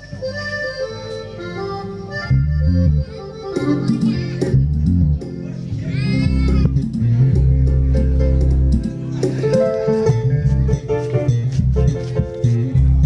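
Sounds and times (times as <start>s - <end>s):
heavy bass line: 0.0s - 13.0s
plucked guitar: 0.0s - 13.0s.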